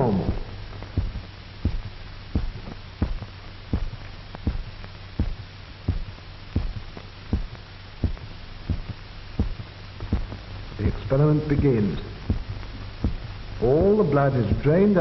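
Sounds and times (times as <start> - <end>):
amplified heartbeat thumps: 0.0 - 15.0
low electrical hum: 0.0 - 15.0.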